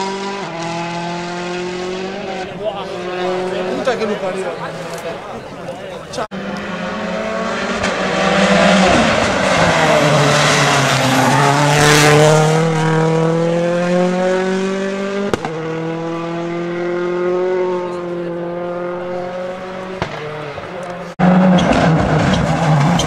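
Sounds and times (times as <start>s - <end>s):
rally car engine accelerating: 0.0s - 5.2s, 6.2s - 23.0s.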